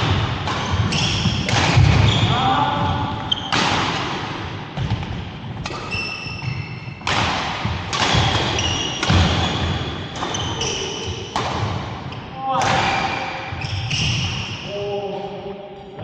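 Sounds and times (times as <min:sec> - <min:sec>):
court shoes squeaking: 0:00.0 - 0:04.1, 0:04.8 - 0:14.9
rackets hitting shuttlecock: 0:00.0 - 0:14.6.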